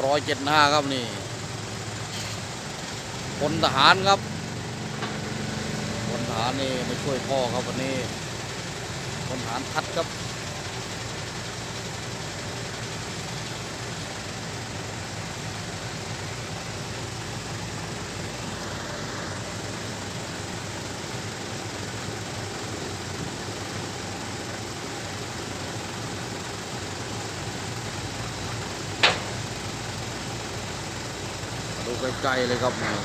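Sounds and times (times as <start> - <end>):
even hiss: 0.0 - 33.0
heavy diesel machinery running: 0.0 - 33.0.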